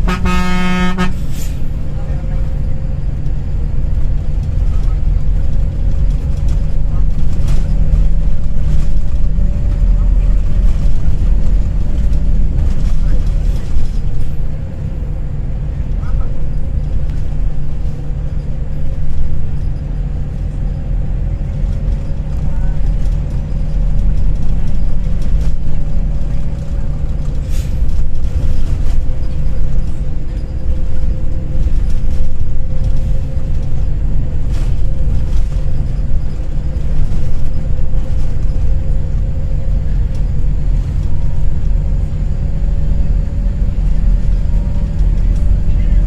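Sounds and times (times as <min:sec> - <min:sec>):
bus engine and road rumble: 0:00.0 - 0:46.0.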